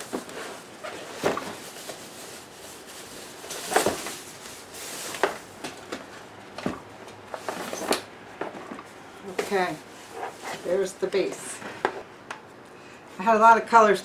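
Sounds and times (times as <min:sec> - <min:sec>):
plastic bags rustling and crinkling: 0:00.0 - 0:12.1.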